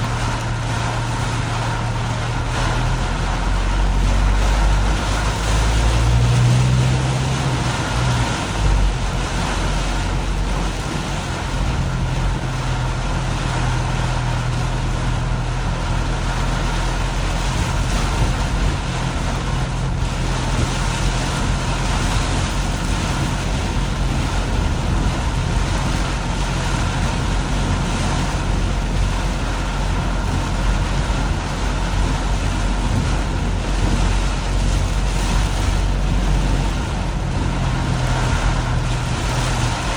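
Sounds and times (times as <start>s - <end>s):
heavy rain hissing: 0.0s - 39.9s
low engine hum: 0.0s - 39.9s
tyre spray on wet road: 0.0s - 39.9s.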